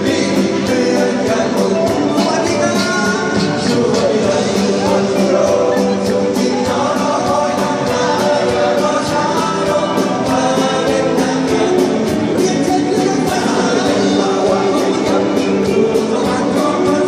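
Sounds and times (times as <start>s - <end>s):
live pop band with singer: 0.0s - 17.0s.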